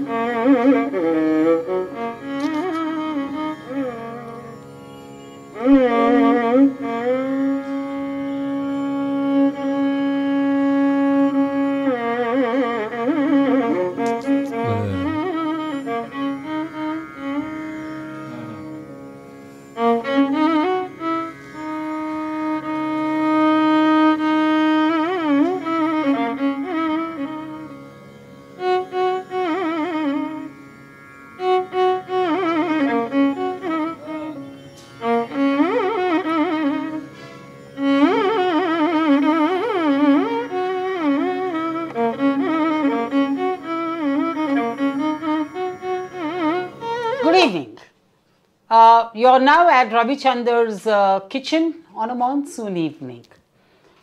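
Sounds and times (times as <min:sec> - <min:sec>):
bowed string instrument melody: 0:00.0 - 0:53.8.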